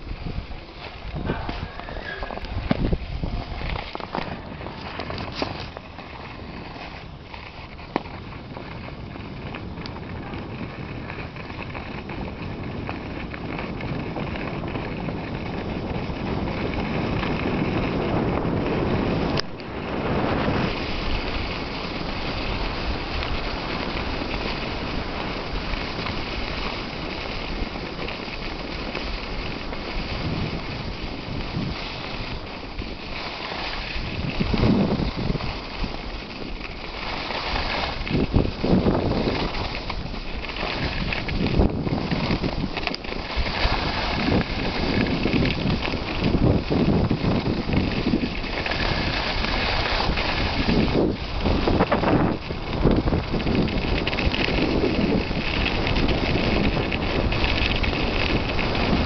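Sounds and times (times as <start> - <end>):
skis hissing over snow: 0.0 - 59.0
wind rushing over microphone: 0.0 - 59.0.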